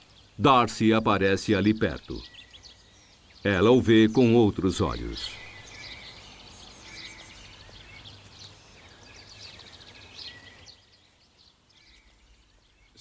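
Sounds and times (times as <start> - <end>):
faint outdoor hum: 0.0 - 13.0
songbirds chirping and warbling: 0.0 - 13.0.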